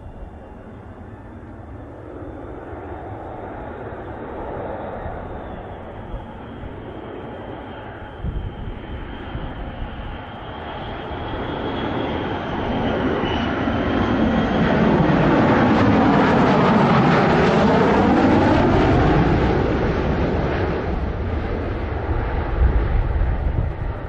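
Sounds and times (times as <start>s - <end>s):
jet fighter flying past: 0.0s - 24.0s.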